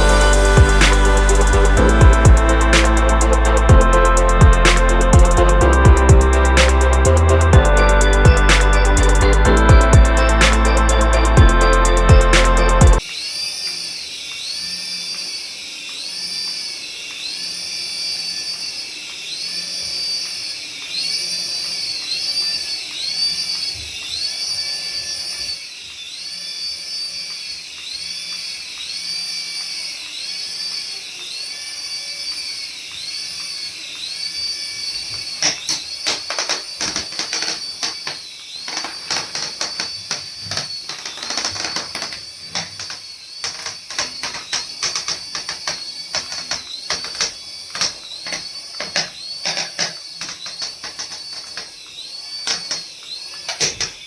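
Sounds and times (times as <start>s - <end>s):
toy electric motor whining: 0.0s - 54.0s.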